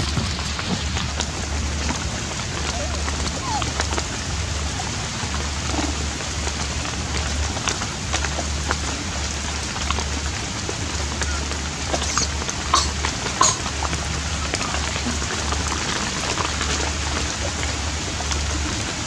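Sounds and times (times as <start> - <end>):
rain pattering on leaves: 0.0 - 19.0
water drips: 0.0 - 19.0.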